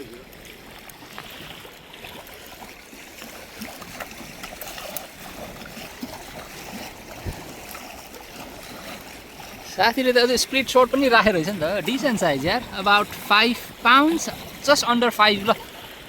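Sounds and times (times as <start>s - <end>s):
water lapping and trickling: 0.0s - 16.0s.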